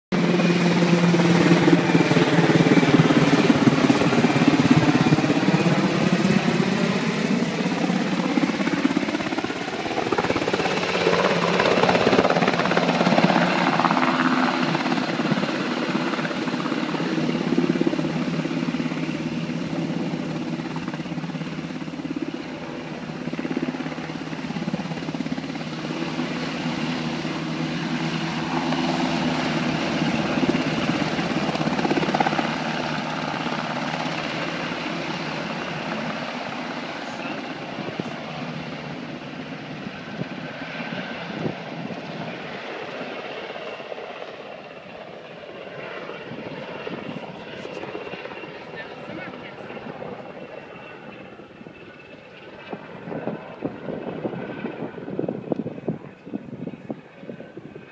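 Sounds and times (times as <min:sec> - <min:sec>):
helicopter rotor and engine: 0:00.1 - 0:57.9.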